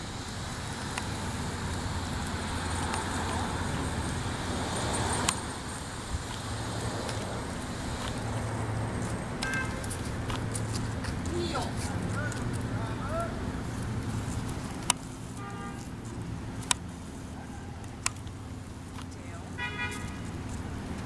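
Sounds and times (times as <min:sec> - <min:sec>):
steady low traffic hum: 0:00.0 - 0:21.0
vehicle passing: 0:00.0 - 0:21.0.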